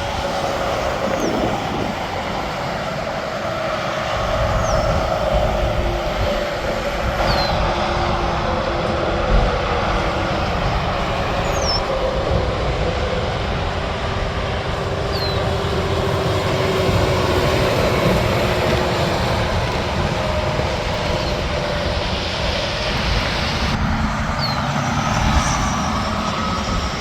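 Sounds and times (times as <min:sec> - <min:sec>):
highway traffic roar: 0:00.0 - 0:27.0.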